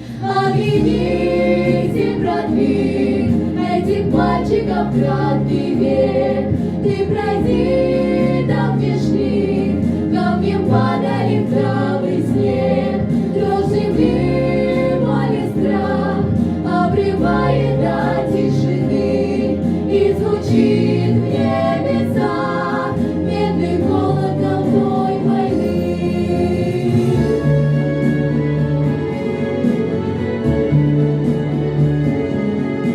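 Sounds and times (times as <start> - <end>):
vocal ensemble singing in harmony: 0.0 - 31.0
recorded backing track: 0.0 - 32.9.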